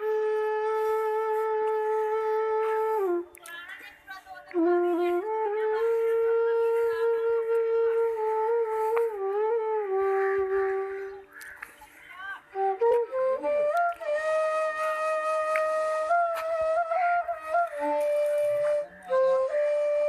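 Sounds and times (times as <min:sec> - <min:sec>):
woodwind melody: 0:00.0 - 0:03.5, 0:04.4 - 0:11.5, 0:12.4 - 0:20.0.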